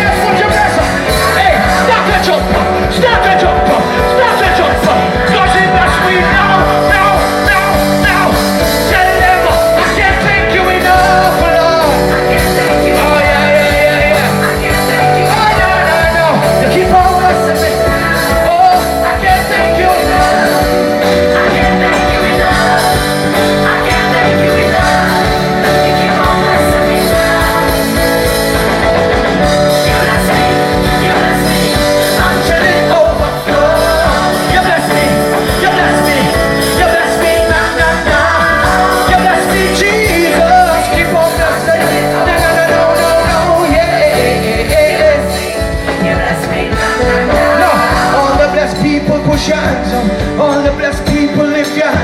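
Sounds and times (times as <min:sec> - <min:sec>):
bass: 0:00.0 - 0:52.0
drums: 0:00.0 - 0:52.0
guitar: 0:00.0 - 0:52.0
person singing lead: 0:00.0 - 0:52.0.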